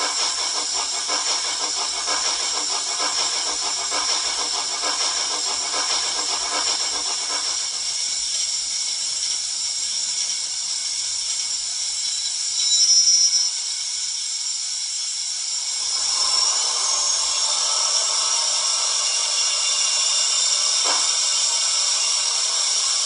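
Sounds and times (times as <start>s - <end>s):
steam hiss from small speaker: 0.0s - 23.0s.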